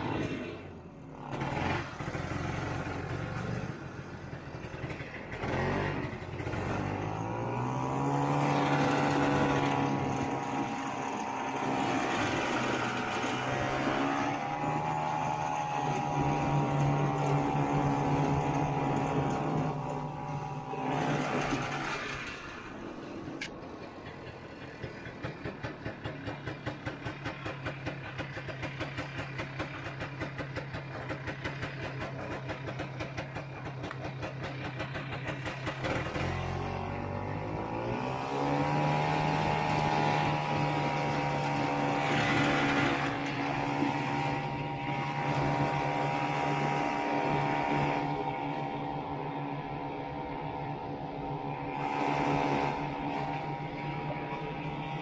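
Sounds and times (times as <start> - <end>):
snowmobile engine revving: 0.0 - 23.6, 24.4 - 55.0.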